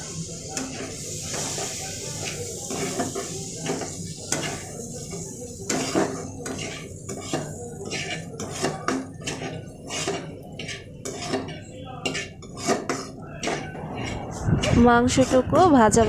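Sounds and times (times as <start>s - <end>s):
utensil scraping a pan: 0.6s - 14.3s.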